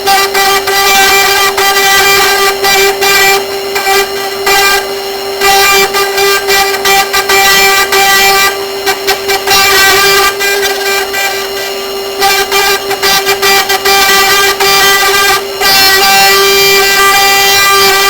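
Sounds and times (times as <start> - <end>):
cutting noise: 0.0 - 18.0
router spindle whine: 0.0 - 18.0.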